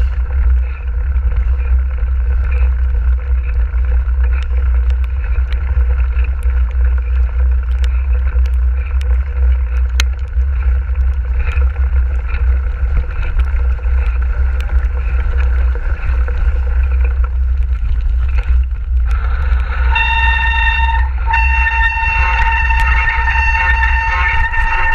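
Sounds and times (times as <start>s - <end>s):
bike clicks and rattles: 0.0s - 24.9s
wind buffeting microphone: 0.0s - 24.9s.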